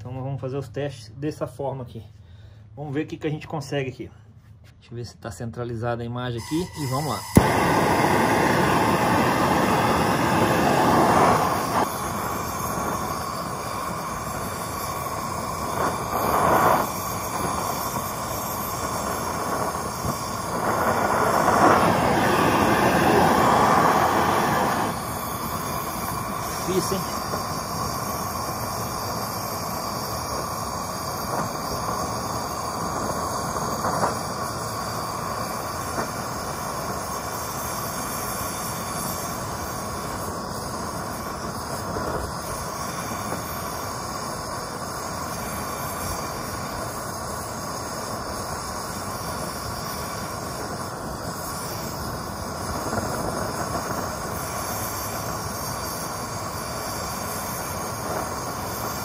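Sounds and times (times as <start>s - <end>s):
blowtorch flame hissing: 6.4s - 59.0s.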